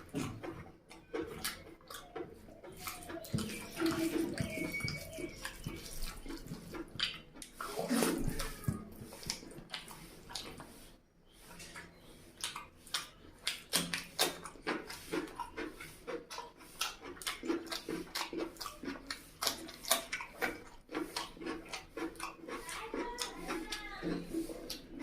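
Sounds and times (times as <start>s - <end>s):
person chewing and lip-smacking: 0.0s - 25.0s.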